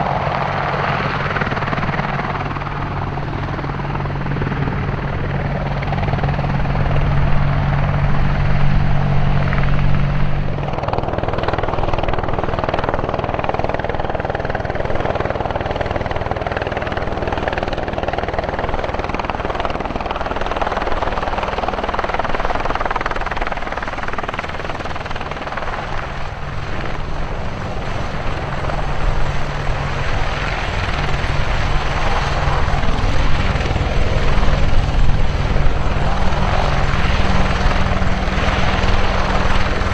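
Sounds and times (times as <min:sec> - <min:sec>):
helicopter rotors and engines: 0:00.0 - 0:39.9.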